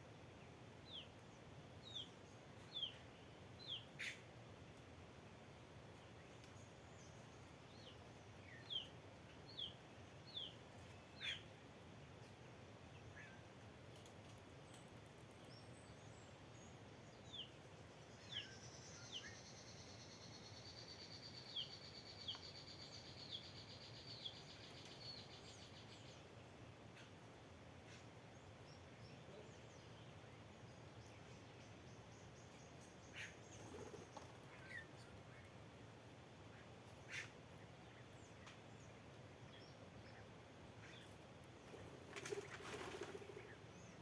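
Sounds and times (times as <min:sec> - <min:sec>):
background hiss: 0:00.0 - 0:44.0
small birds chirping: 0:00.4 - 0:44.0.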